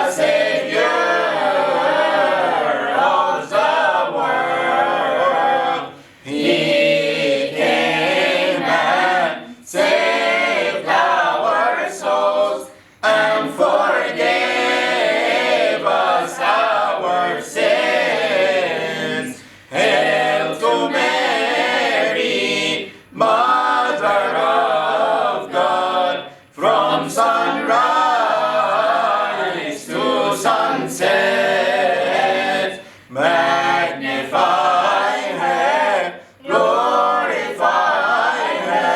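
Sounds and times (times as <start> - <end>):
group singing a hymn: 0.0 - 38.9.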